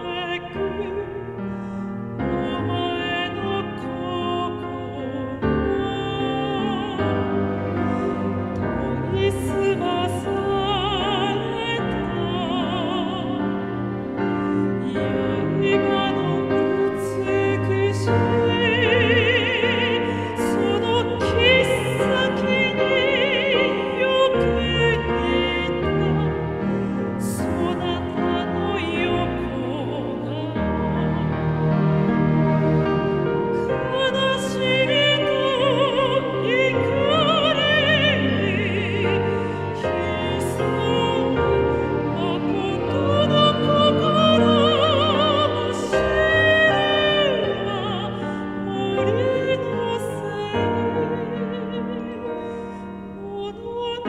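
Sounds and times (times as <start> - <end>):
operatic soprano singing: 0.0 - 54.0
orchestral accompaniment: 0.0 - 54.0.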